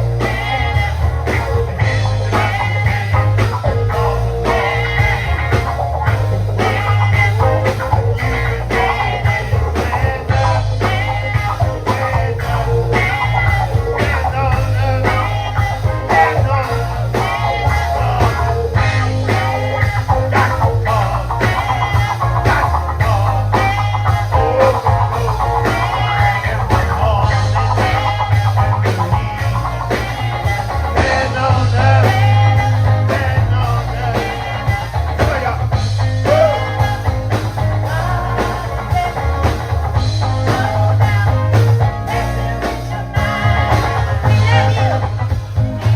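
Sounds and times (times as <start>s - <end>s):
bass guitar: 0.0s - 45.9s
drums with a steady beat: 0.0s - 45.9s
electric guitar: 0.0s - 45.9s.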